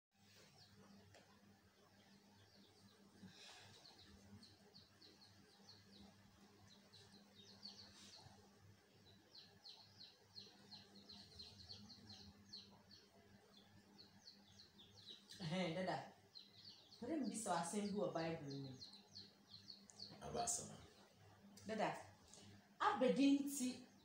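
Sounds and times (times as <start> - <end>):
faint low hum: 0.2 - 24.0.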